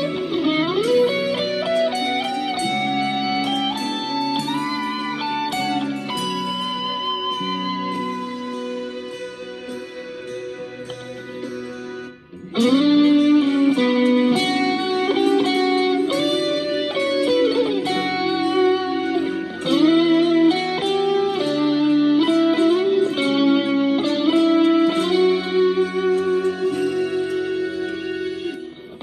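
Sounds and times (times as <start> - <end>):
electric guitar melody with bends: 0.0 - 29.0.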